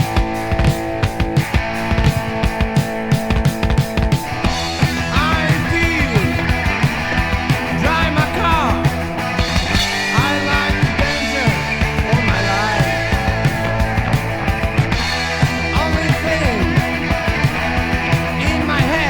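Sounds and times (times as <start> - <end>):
heavy metal song: 0.0 - 19.0.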